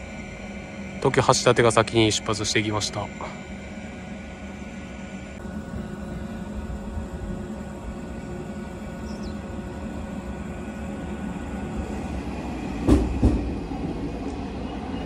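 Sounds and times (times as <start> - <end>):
electric train rolling rumble: 0.0 - 15.0.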